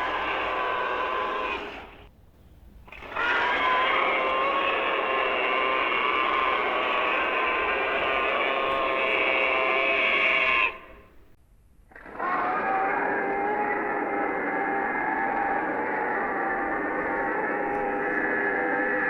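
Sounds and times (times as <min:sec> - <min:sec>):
raspy dinosaur roar screech: 0:00.0 - 0:02.1, 0:02.9 - 0:11.1, 0:12.1 - 0:19.0.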